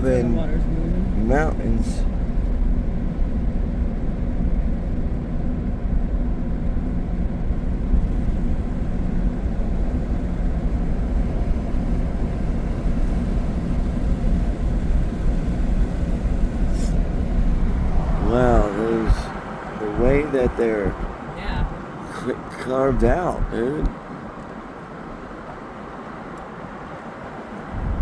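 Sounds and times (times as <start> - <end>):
road and engine rumble: 0.0 - 28.0.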